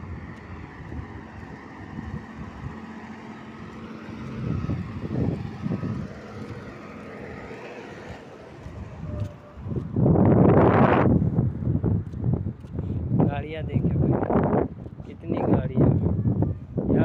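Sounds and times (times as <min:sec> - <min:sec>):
road traffic passing: 0:00.0 - 0:17.0
wind on microphone: 0:00.0 - 0:17.0.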